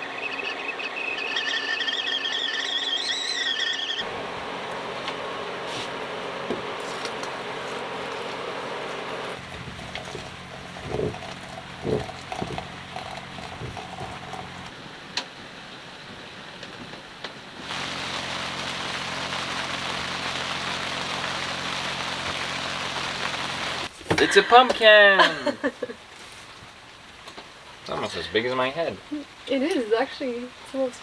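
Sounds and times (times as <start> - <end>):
rain hissing: 4.0 - 31.0.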